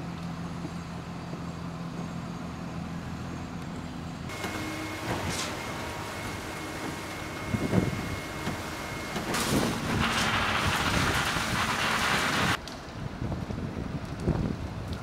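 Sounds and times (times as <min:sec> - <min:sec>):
diesel truck engine running: 0:00.0 - 0:12.6
construction machinery whining: 0:00.1 - 0:12.6.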